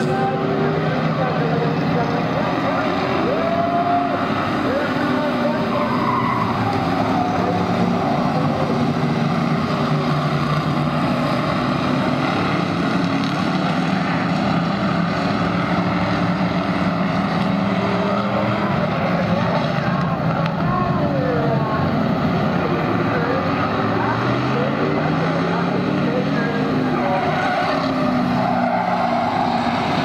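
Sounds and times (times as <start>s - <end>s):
stock car engines racing: 0.0s - 30.0s.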